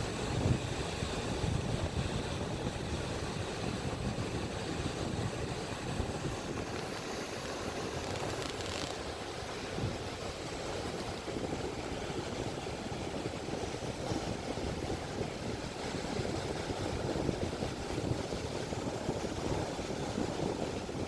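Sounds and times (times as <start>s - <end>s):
ocean surf on beach: 0.0s - 21.0s.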